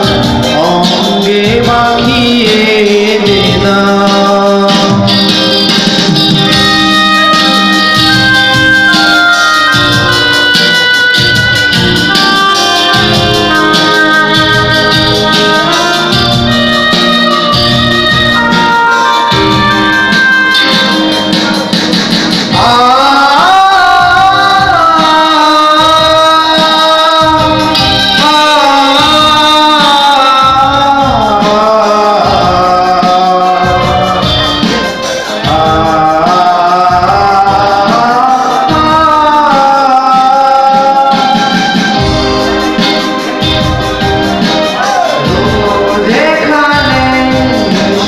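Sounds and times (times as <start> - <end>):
man singing into microphone: 0.0 - 20.8, 22.4 - 43.2, 44.6 - 48.0
live band with electric guitar: 0.0 - 48.0.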